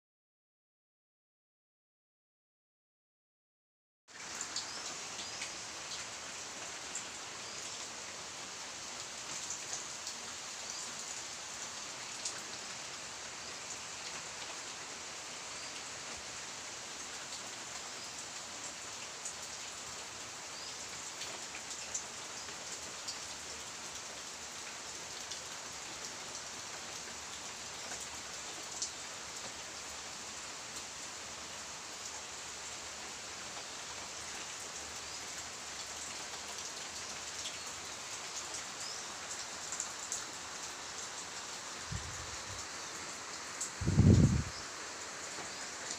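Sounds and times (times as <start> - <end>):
steady rain: 4.1 - 45.9.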